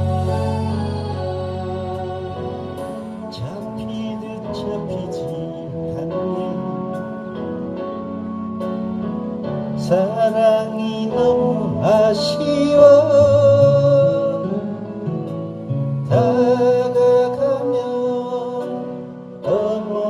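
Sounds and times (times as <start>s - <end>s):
backing music: 0.0s - 20.0s
person singing a ballad: 0.0s - 20.0s.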